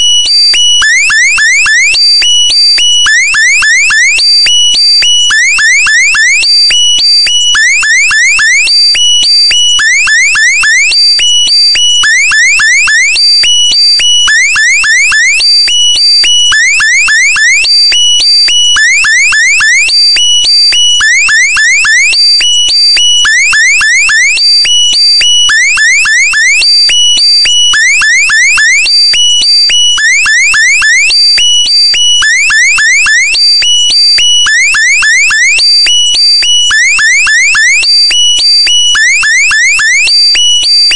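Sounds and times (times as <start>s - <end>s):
electronic alarm sweeps: 0.0s - 40.9s.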